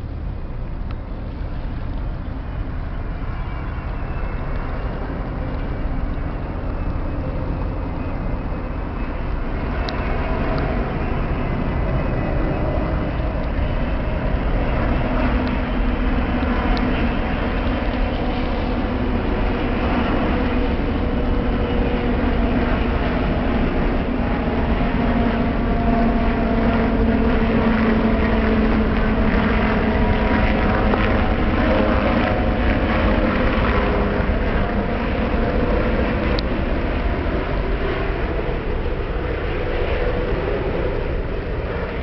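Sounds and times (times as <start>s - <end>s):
jet aircraft rumble: 0.0s - 42.0s.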